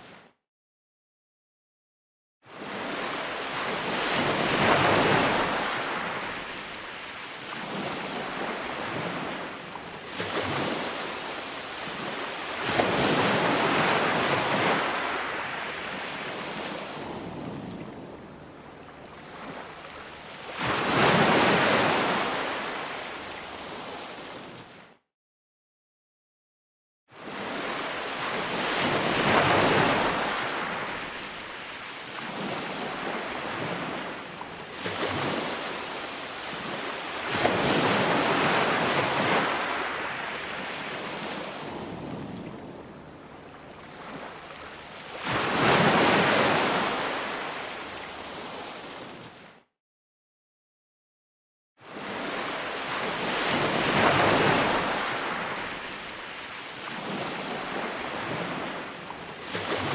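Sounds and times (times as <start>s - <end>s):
wind: 0.0s - 0.4s, 2.4s - 25.0s, 27.1s - 49.7s, 51.8s - 59.9s
ocean waves breaking: 2.6s - 24.8s, 27.2s - 49.5s, 51.9s - 59.9s.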